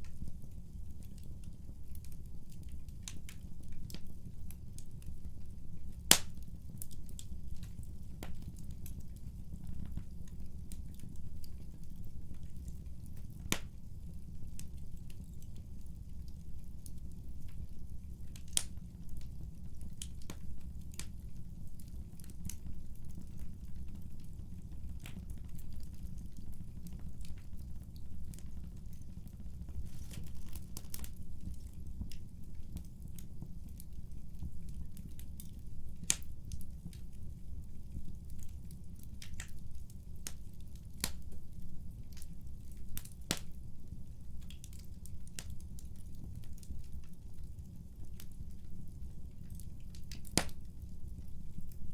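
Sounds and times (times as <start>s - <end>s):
fire low rumble: 0.0s - 51.9s
wood fire crackling and popping: 0.0s - 51.9s.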